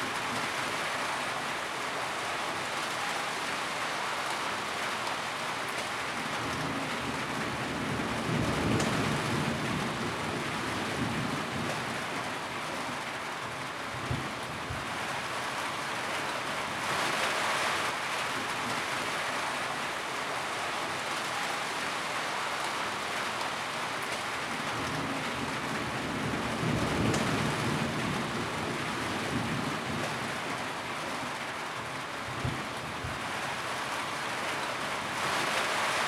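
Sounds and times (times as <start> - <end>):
rain drumming on a tin roof: 0.0 - 36.0.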